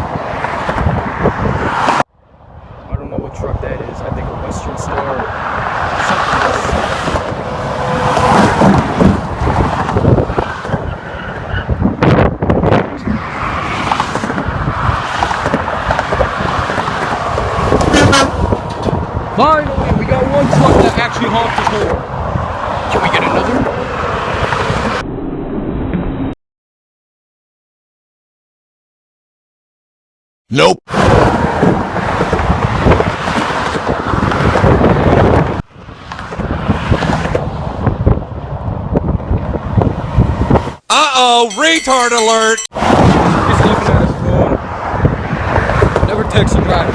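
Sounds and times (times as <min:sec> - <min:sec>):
highway traffic passing: 0:00.0 - 0:25.0, 0:30.9 - 0:46.9
wind buffeting microphone: 0:00.0 - 0:25.0, 0:30.9 - 0:40.8, 0:42.8 - 0:46.9.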